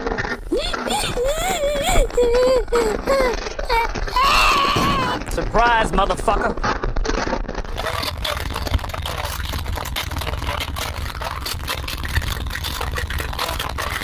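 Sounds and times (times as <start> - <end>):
crackling noise: 0.0 - 14.0.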